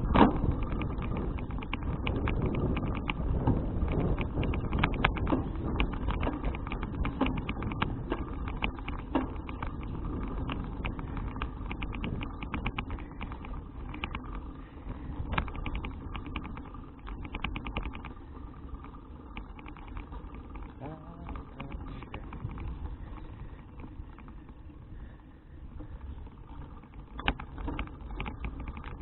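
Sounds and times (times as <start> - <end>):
bicycle clicking and rattling: 0.0 - 29.0
wind rumbling on microphone: 0.0 - 29.0.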